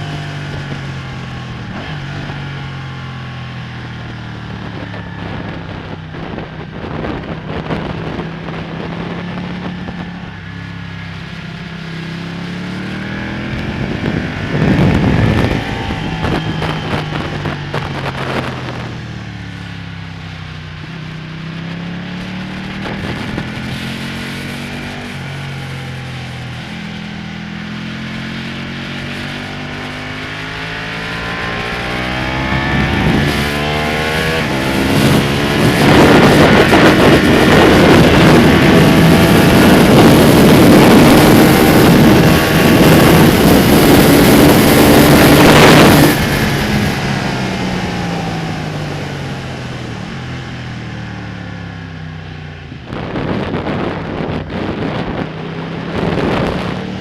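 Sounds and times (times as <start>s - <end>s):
rushing wind noise: 0.0s - 57.0s
sportbike engine revving: 0.0s - 57.0s.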